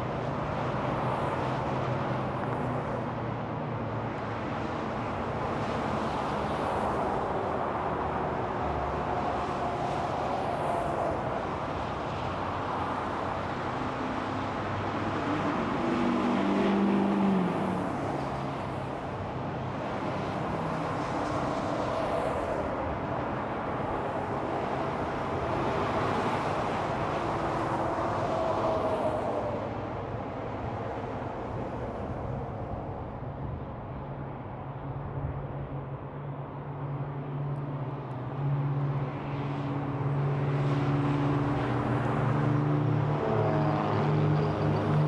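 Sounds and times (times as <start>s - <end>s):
traffic tyre noise: 0.0s - 45.0s
heavy vehicle engine hum: 5.0s - 45.0s.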